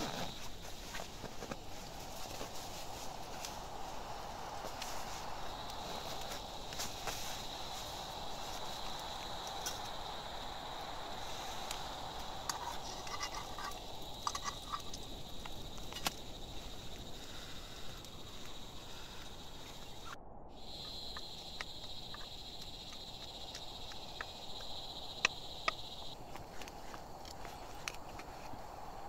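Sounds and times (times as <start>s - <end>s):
high-pitched insect drone: 0.0s - 26.2s.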